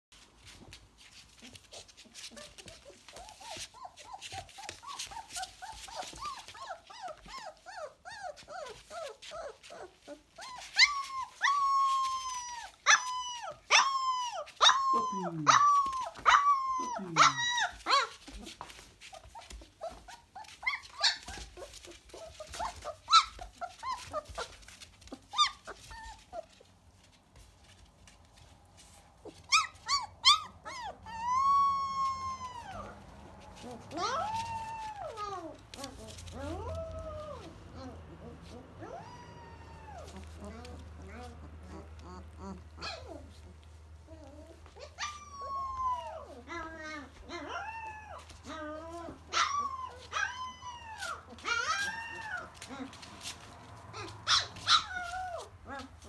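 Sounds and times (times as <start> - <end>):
puppies whimpering and squeaking: 0.4 - 56.0
puppies crying yelps: 1.4 - 26.7, 29.2 - 43.4, 44.0 - 56.0.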